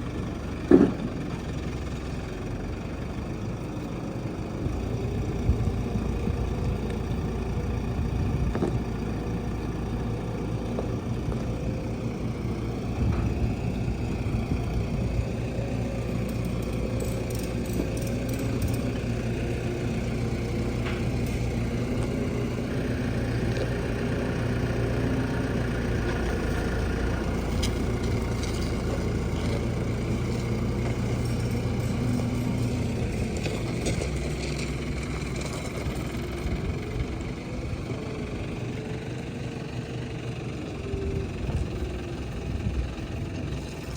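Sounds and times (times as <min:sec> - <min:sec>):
farm machinery engine running: 0:00.0 - 0:43.9.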